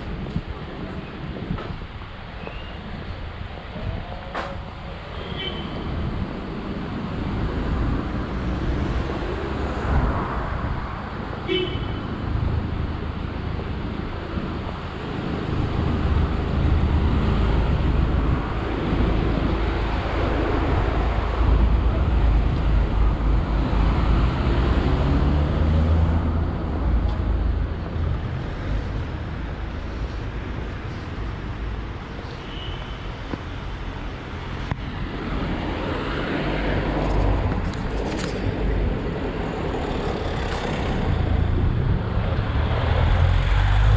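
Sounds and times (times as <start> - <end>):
vehicles passing: 0.0 - 43.9.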